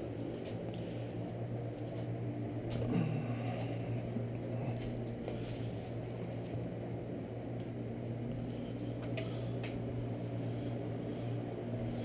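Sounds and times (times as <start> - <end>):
garage background hum: 0.0 - 12.0.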